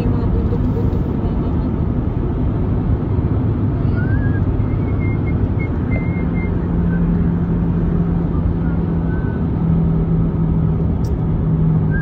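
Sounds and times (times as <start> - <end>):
tyre and engine rumble: 0.0 - 12.0.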